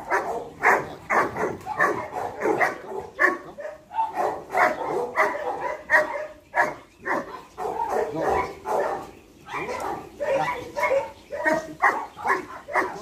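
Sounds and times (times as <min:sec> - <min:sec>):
large dog barking: 0:00.0 - 0:13.0.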